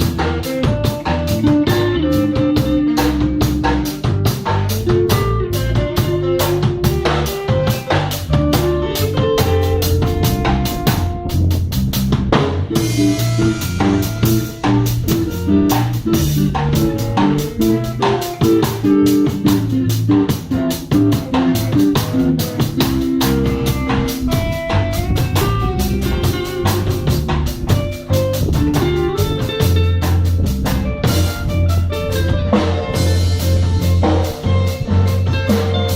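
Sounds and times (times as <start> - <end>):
drum kit beat: 0.0 - 35.9
guitar lines: 0.0 - 35.9
low bass notes: 0.0 - 35.9.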